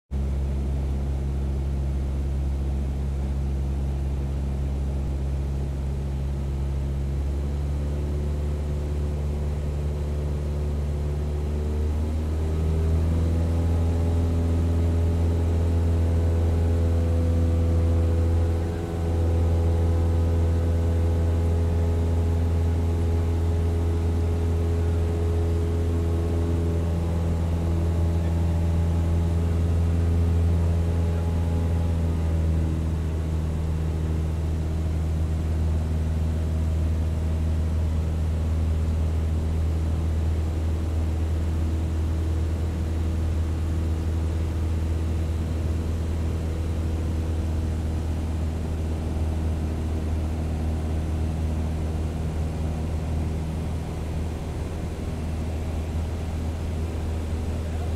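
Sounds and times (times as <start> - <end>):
propeller plane engine droning: 0.1 - 57.9.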